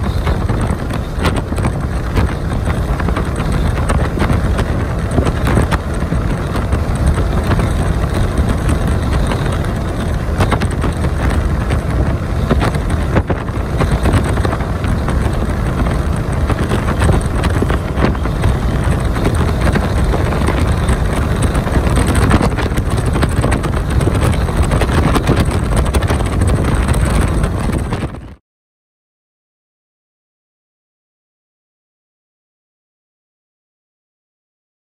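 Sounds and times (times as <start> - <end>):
road and wind rumble in truck cab: 0.0 - 28.4.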